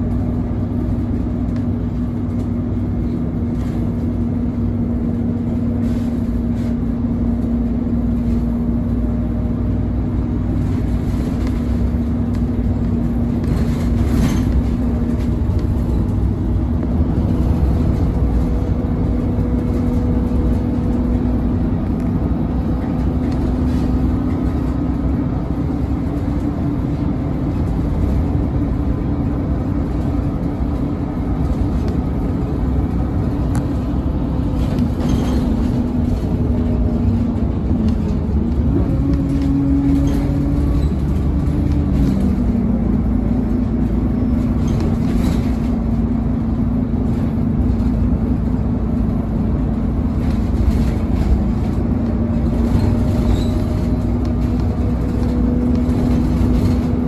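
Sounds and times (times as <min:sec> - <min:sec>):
bus engine rumbling: 0:00.0 - 0:57.0.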